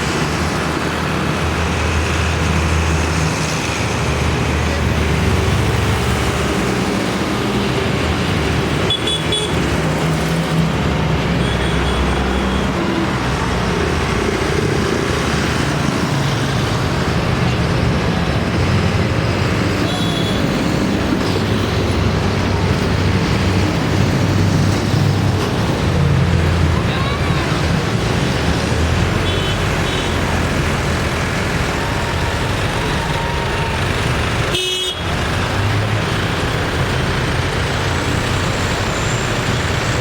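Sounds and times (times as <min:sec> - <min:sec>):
tractor engines running: 0:00.0 - 0:40.0.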